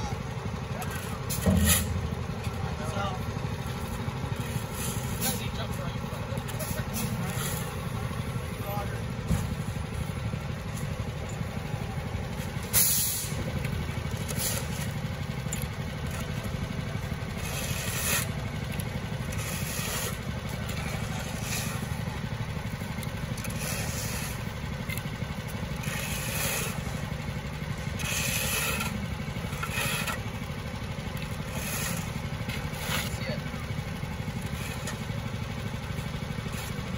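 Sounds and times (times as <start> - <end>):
engine idling: 0.0 - 36.9
shovels scraping asphalt: 0.8 - 36.9.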